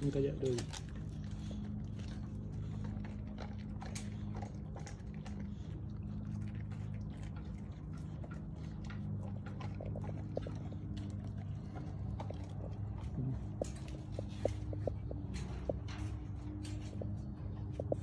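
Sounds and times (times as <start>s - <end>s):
dog gnawing on a bone: 0.0s - 18.0s
low steady hum: 0.0s - 18.0s.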